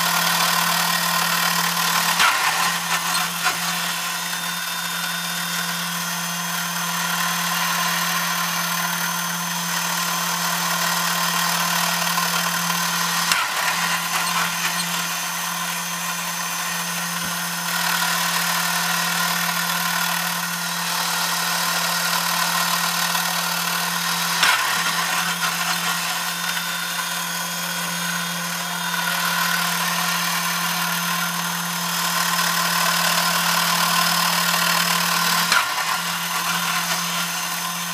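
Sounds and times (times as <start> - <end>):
toy motor whirring: 0.0 - 37.9.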